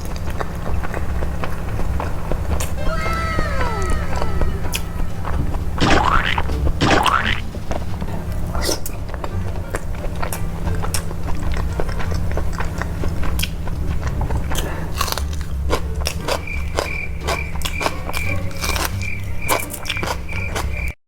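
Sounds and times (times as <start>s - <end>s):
person chewing food: 0.0s - 7.9s, 8.5s - 20.9s.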